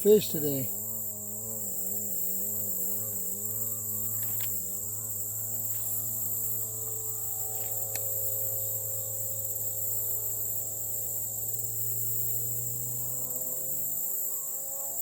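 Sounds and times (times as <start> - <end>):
distant engine drone: 0.0 - 14.6
insects chirping: 0.0 - 15.0.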